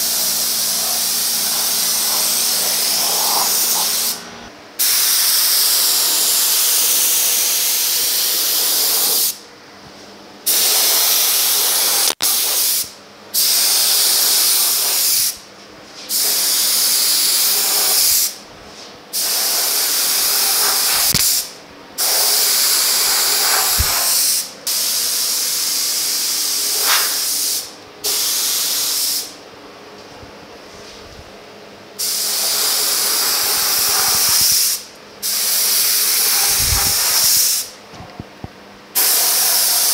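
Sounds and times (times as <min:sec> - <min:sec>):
paint spray gun air hiss: 0:00.0 - 0:09.4, 0:10.4 - 0:15.4, 0:16.0 - 0:18.4, 0:19.1 - 0:29.4, 0:32.0 - 0:37.7, 0:39.0 - 0:39.9.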